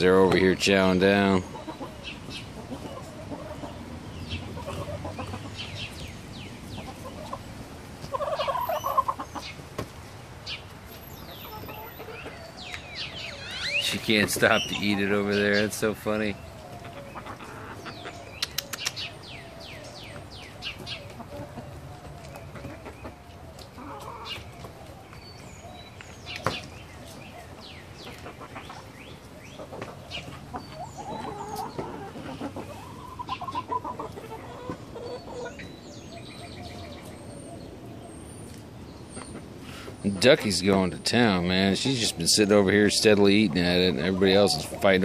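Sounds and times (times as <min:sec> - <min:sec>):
hens clucking and calling: 0:00.0 - 0:45.0.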